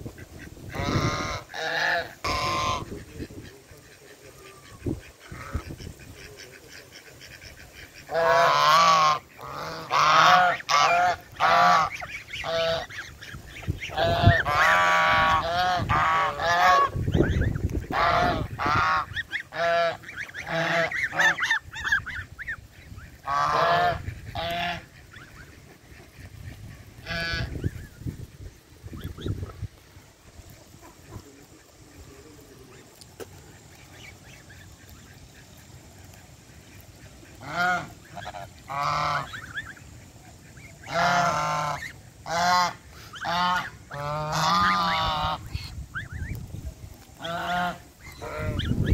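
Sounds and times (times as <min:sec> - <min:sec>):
geese honking: 0:00.0 - 0:48.9.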